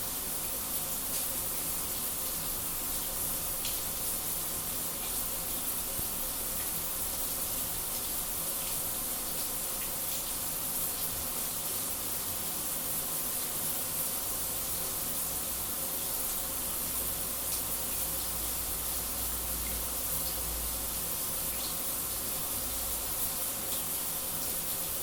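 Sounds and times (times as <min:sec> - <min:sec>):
shower running: 0:00.0 - 0:25.0.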